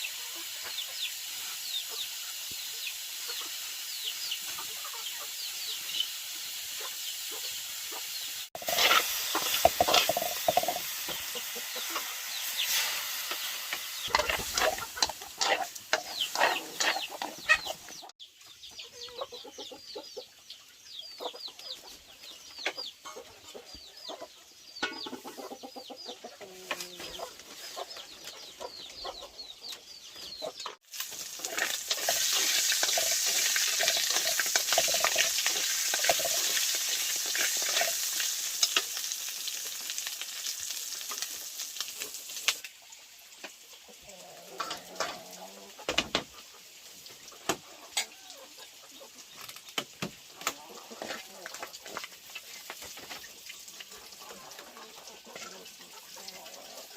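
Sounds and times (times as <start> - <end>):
chickens clucking: 0.0 - 40.2, 42.8 - 56.9.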